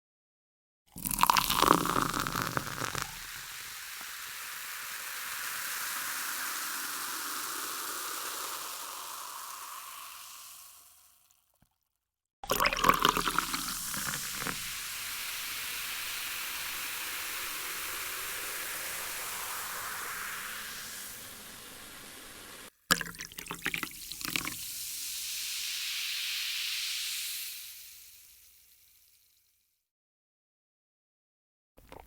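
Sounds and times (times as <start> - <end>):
fizzy drink pouring into a glass: 0.9 - 11.4, 12.5 - 29.4.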